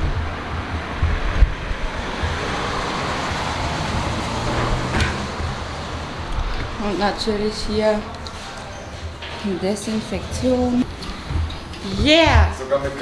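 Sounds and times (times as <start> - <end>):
cars passing: 0.0 - 13.0
road traffic noise: 0.0 - 13.0.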